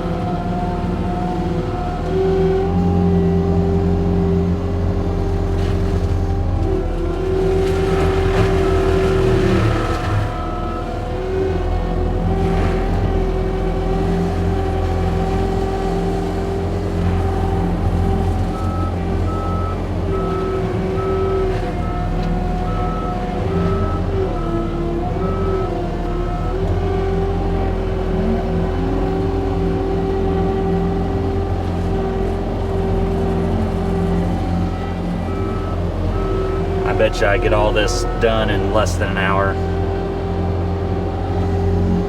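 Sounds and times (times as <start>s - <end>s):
diesel engine and mulcher running: 0.0s - 39.5s.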